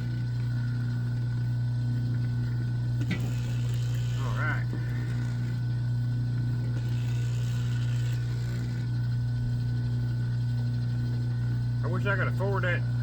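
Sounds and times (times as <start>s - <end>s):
machine motor humming: 0.0s - 13.0s.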